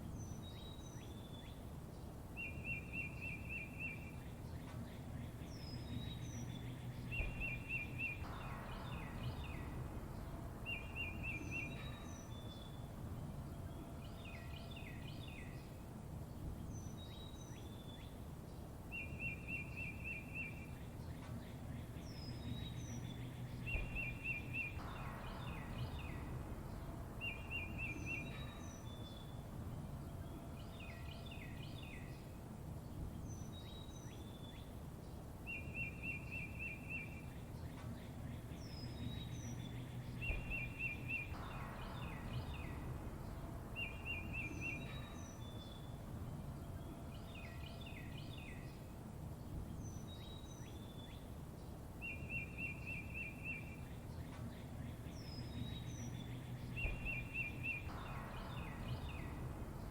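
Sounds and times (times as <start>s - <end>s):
low background rumble: 0.0s - 59.9s
songbirds calling: 0.0s - 59.9s.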